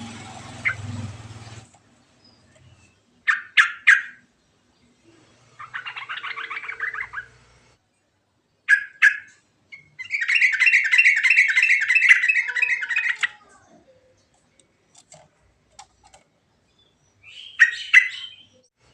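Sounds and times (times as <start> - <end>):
bird singing: 0.0 - 15.1, 15.8 - 18.9.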